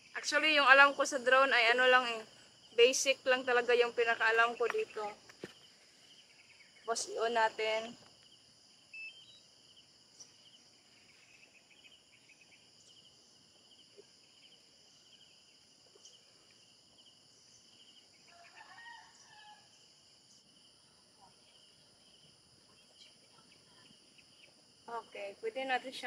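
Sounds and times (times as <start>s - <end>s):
insect chirring: 0.0s - 26.0s.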